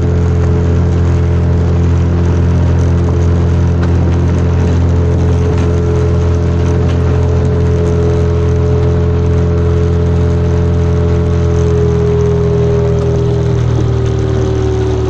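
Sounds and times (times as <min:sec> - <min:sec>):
speedboat engine droning: 0:00.0 - 0:15.0.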